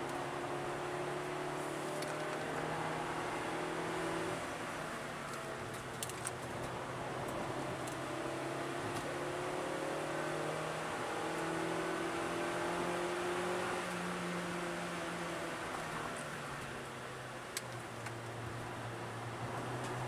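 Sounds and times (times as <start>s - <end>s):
car engine accelerating: 0.0s - 16.6s
wind and road noise: 0.0s - 20.0s.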